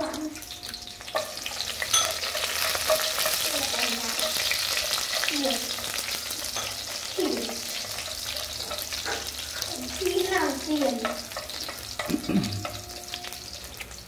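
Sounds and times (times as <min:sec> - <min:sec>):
chopsticks clicking and scraping pot: 0:00.0 - 0:14.0
garlic sizzling in a pot: 0:00.0 - 0:14.0.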